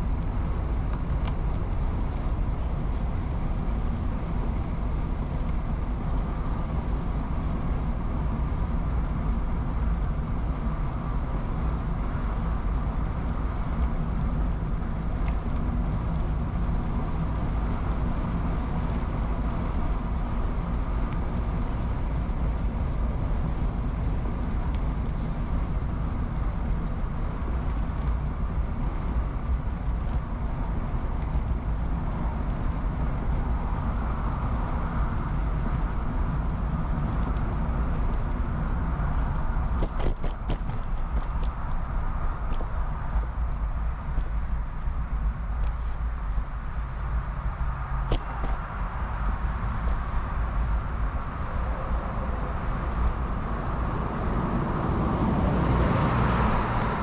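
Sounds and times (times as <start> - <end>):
bicycle riding rumble: 0.0 - 57.0
road noise: 0.0 - 57.0
wind on microphone: 0.0 - 57.0.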